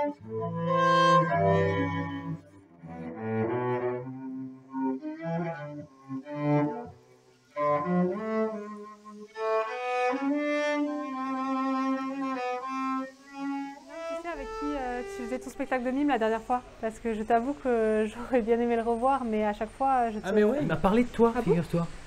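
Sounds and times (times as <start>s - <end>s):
bowed string music: 0.0s - 20.7s.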